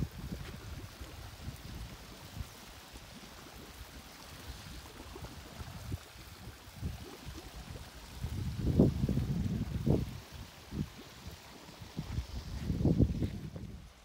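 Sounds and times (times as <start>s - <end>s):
water pouring from pipe: 0.0s - 14.0s.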